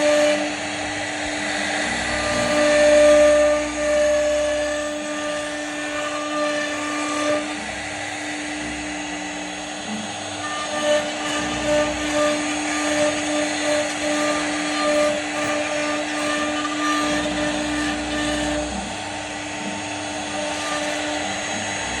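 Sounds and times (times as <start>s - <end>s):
router spindle whine: 0.0s - 22.0s
bit cutting into wood: 1.4s - 22.0s.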